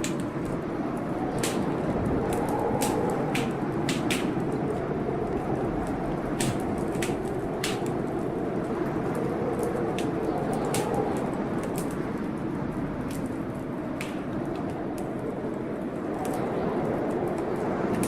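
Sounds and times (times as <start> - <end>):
fire popping: 0.0 - 18.0
rushing storm noise: 0.0 - 18.0
wood fire crackling: 0.0 - 18.0.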